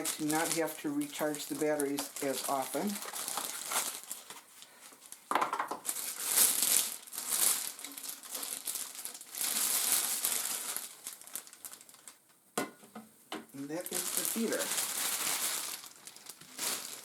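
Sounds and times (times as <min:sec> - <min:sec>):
packaging crinkling and rustling: 0:00.0 - 0:12.2, 0:13.6 - 0:17.0.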